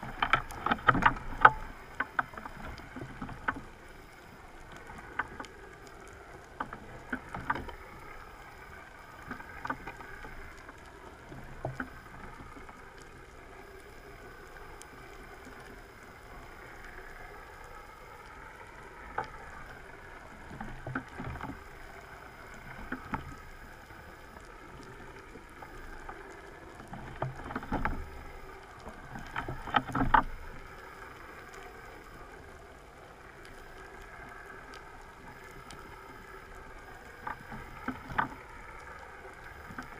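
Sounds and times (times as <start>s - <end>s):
underwater wavering hum: 0.0s - 39.9s.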